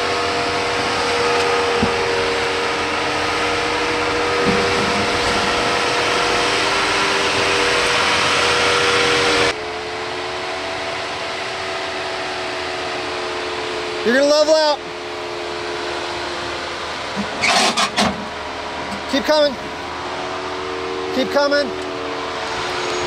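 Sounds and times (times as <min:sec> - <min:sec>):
engine and drivetrain drone: 0:00.0 - 0:23.0.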